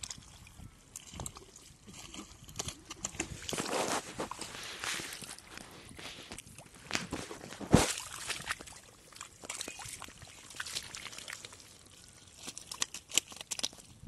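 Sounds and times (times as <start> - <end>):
hands squelching in wet mud: 0.0 - 14.0.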